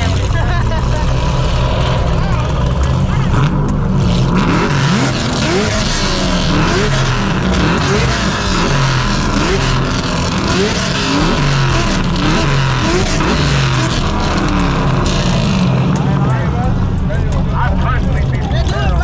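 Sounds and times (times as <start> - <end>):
car engines revving on limiters: 0.0 - 19.0.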